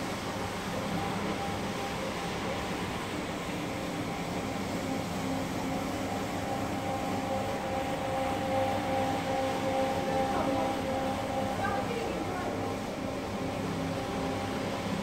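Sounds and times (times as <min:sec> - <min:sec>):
floor machine motor hum: 0:03.0 - 0:15.0.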